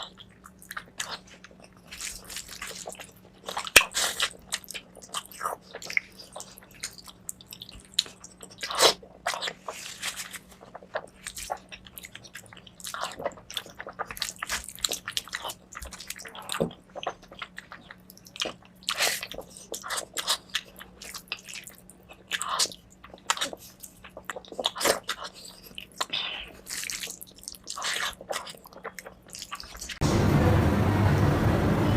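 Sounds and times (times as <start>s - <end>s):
chewing and biting food: 0.0s - 30.0s.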